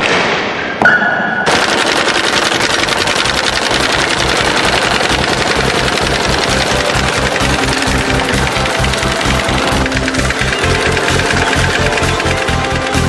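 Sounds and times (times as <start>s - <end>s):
tractor engine pulsing: 1.7s - 13.0s
sickle-bar mower clattering: 2.5s - 13.0s.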